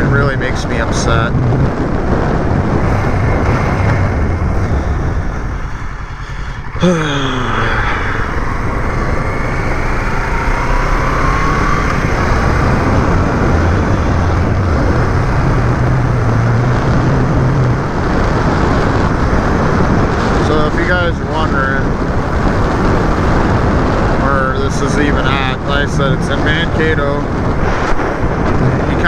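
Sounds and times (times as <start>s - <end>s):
road noise: 0.0s - 29.0s
vehicle engine hum: 0.0s - 29.0s.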